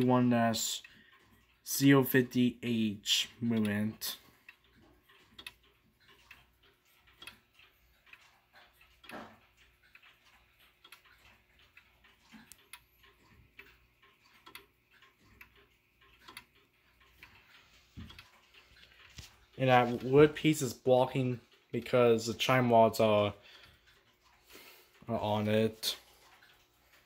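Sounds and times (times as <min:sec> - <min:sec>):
clock ticking faintly: 0:00.0 - 0:27.0.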